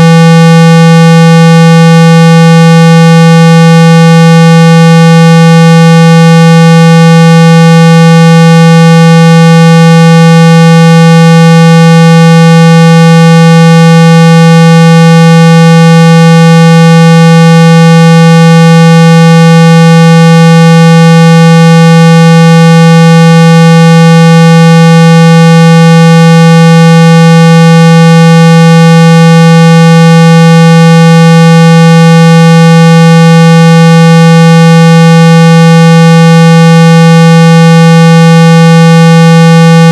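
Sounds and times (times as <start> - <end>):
loud low test tone: 0.0 - 39.9.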